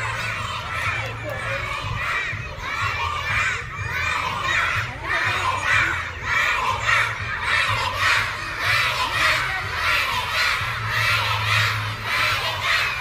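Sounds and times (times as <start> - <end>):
crowd of children cheering: 0.0 - 13.0.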